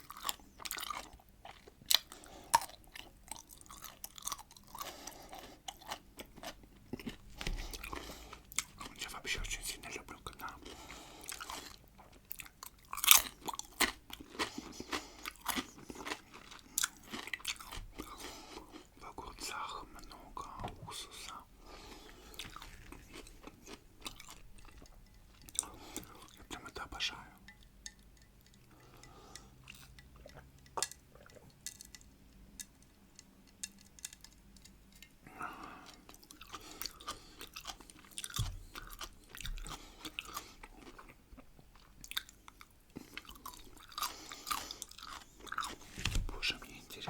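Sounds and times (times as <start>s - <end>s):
crunchy chewing of pickle: 0.0s - 20.5s, 21.7s - 27.7s, 33.7s - 47.0s.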